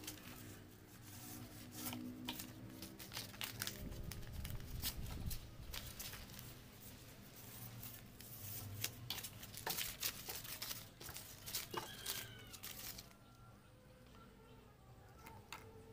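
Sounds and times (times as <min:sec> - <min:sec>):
sandpaper rustling and crackling: 0:00.0 - 0:13.1.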